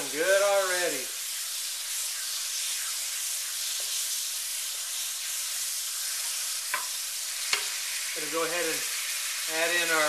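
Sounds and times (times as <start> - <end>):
chicken sizzling in a wok: 0.0 - 10.0.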